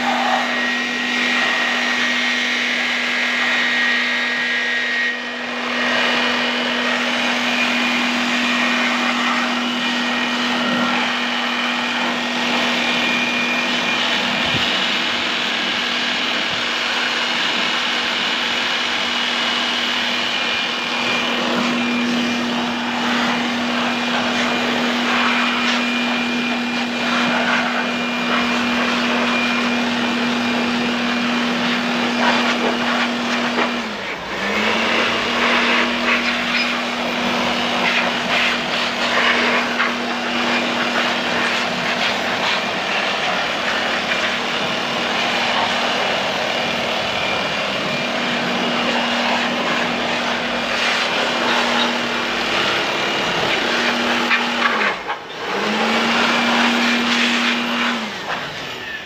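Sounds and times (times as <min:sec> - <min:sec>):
machine motor humming and hissing: 0:00.0 - 0:59.0.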